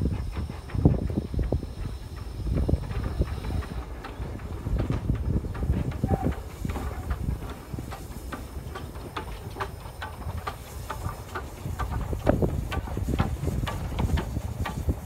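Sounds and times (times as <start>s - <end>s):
steam engine rumbling: 0.0s - 15.0s
wheels clicking and knocking: 0.0s - 15.0s.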